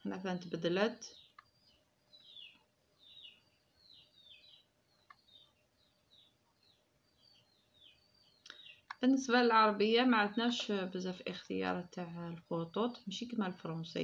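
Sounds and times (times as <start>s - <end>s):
faint steady hum: 0.0s - 14.0s
small bird chirping: 0.0s - 14.0s.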